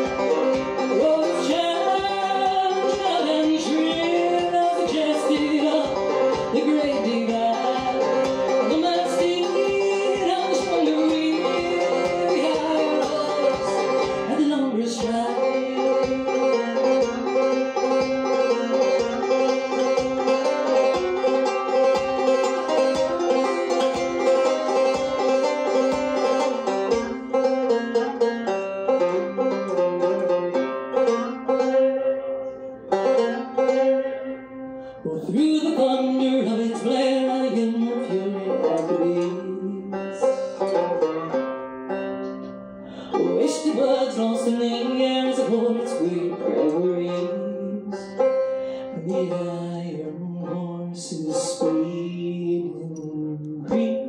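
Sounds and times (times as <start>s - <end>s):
banjo picking: 0.0s - 54.0s.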